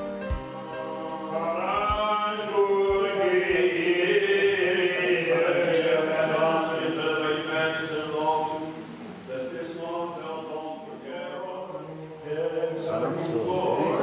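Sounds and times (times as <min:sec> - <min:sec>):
man chanting melismatic line: 0:00.8 - 0:14.0.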